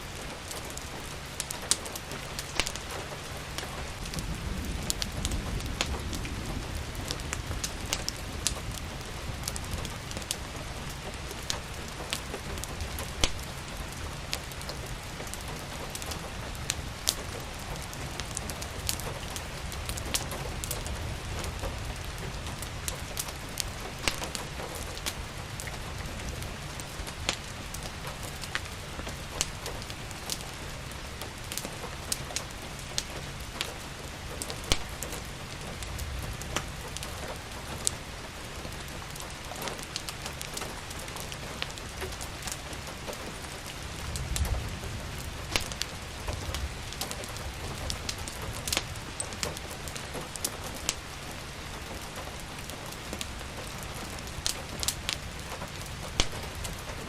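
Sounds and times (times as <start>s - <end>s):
steady rain falling: 0.0s - 57.0s
wood fire crackling and popping: 0.0s - 57.0s.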